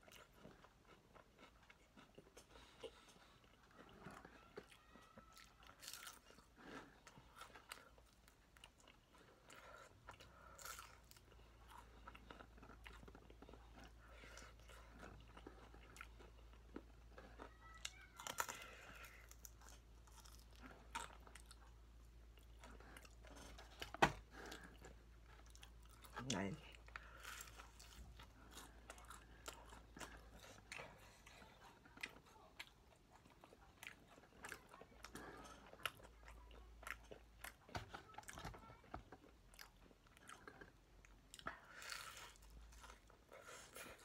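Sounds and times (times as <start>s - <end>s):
chewing crunchy fried chicken: 0.0s - 44.0s.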